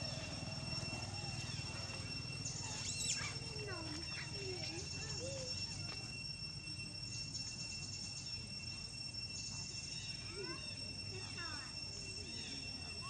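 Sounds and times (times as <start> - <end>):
insect chorus chirping: 0.0 - 13.0.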